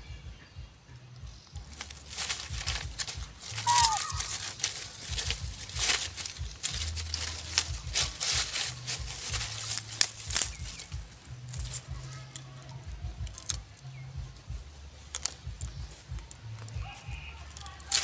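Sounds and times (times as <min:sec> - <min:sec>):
low rumble: 0:00.0 - 0:17.9
dry leaves crackling and rustling: 0:01.3 - 0:18.0.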